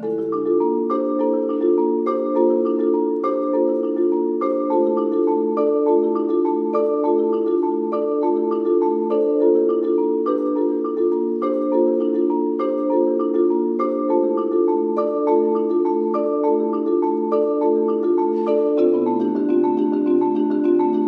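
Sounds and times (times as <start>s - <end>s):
solo marimba playing: 0.0s - 21.0s.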